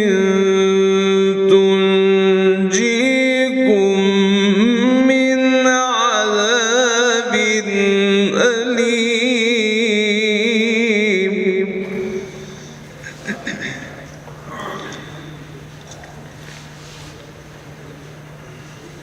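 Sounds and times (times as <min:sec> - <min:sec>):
man reciting melodically: 0:00.0 - 0:15.6.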